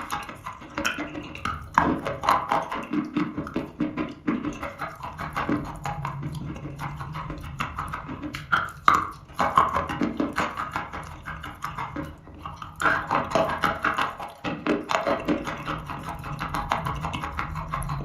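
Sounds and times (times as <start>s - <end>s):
chalk being chewed: 0.0s - 18.0s.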